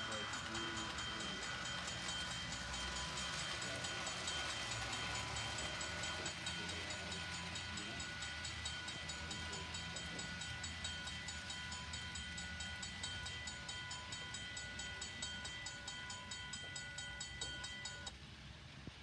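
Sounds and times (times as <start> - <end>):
crossing bell ringing: 0.0 - 18.2
model train cars rumbling: 0.0 - 19.0.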